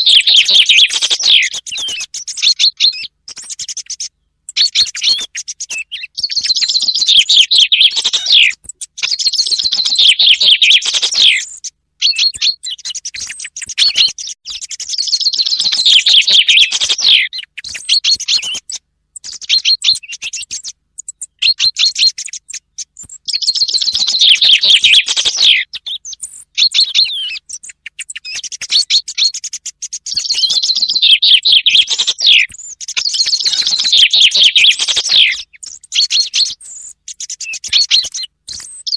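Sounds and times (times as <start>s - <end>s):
recorded chaffinch song: 0.0s - 38.9s
song thrush singing: 0.0s - 38.9s.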